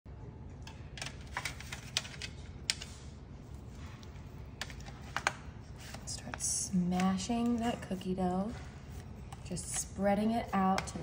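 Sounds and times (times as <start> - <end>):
low room hum: 0.1 - 11.0.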